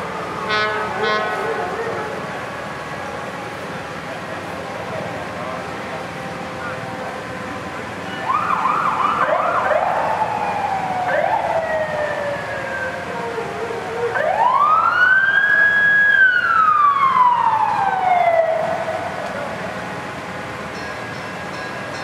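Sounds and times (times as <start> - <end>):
fire engine sirens: 0.0 - 22.0.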